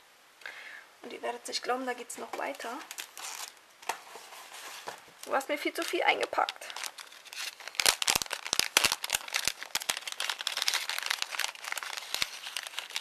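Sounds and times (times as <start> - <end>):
packaging crinkling and rustling: 2.4 - 13.0.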